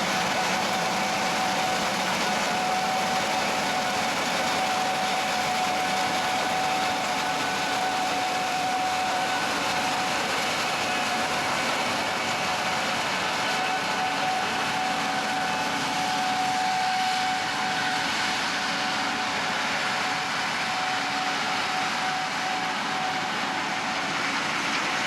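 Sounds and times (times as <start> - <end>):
combine harvester drone: 0.0 - 25.0
steady machine whine: 0.0 - 25.0.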